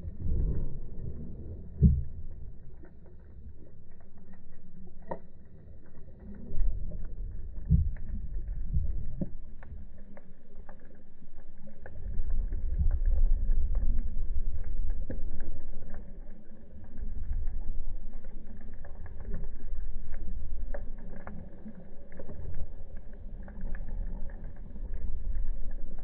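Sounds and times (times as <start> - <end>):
faint underwater clicks: 0.0 - 26.0
underwater ocean swell rumble: 0.0 - 26.0.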